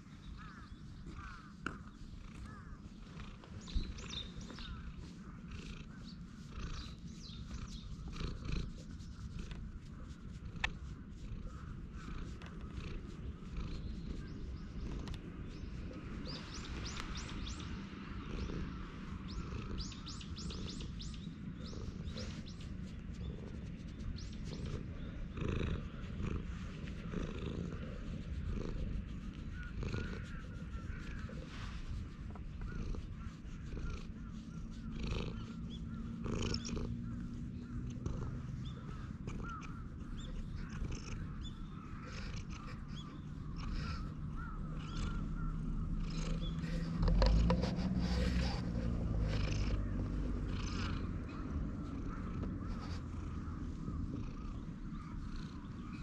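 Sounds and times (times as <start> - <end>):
birds calling: 0.0 - 56.0
cat purring: 0.0 - 56.0.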